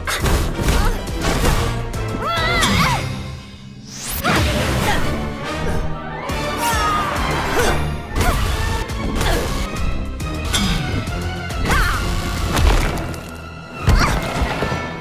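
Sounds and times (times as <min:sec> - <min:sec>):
background score music: 0:00.0 - 0:15.0.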